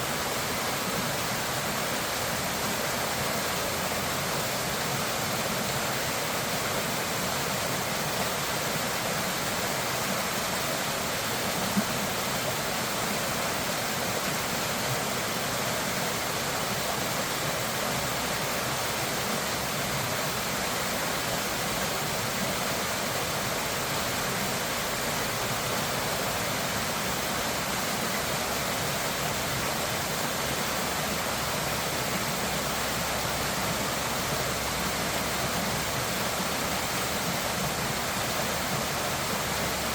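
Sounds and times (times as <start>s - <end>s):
fast-flowing water rushing: 0.0s - 39.9s.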